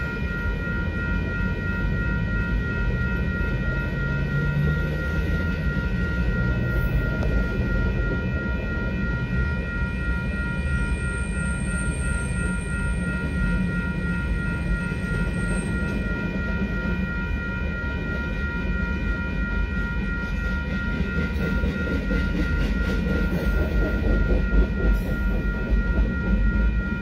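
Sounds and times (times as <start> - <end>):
freight train rumble and clatter: 0.0 - 27.0
high-pitched ringing tone: 0.0 - 27.0.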